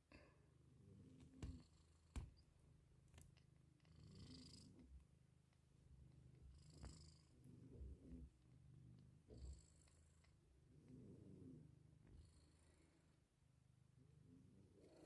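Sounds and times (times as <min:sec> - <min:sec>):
cat purring: 0:00.1 - 0:15.0.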